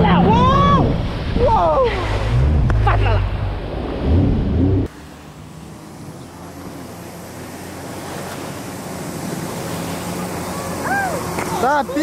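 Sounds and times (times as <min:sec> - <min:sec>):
jet ski engine running: 0:00.0 - 0:12.0
rush of wind and water: 0:00.0 - 0:12.0.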